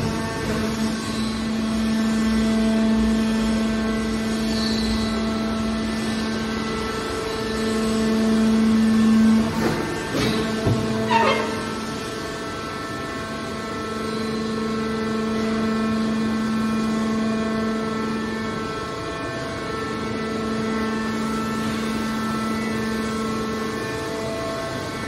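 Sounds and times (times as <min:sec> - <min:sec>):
hydraulic pump motor humming: 0:00.0 - 0:25.0.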